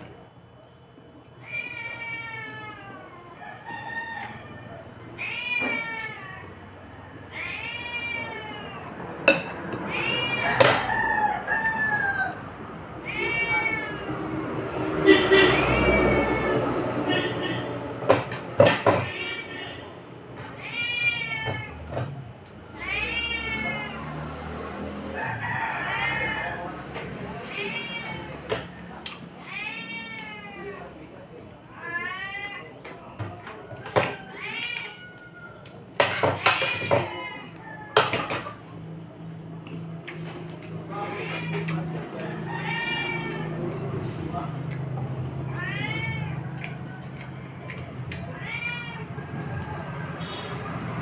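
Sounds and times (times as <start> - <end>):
cat meowing: 1.3 - 3.4, 4.1 - 24.3, 25.1 - 38.9, 40.7 - 50.4.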